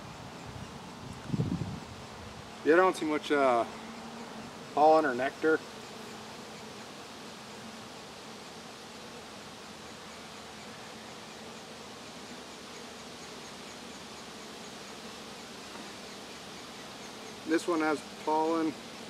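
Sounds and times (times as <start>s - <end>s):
bees humming: 0.0s - 19.0s.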